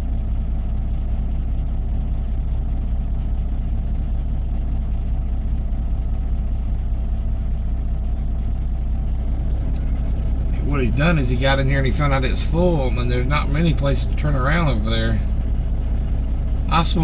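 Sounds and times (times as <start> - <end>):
truck diesel engine idling: 0.0 - 17.0.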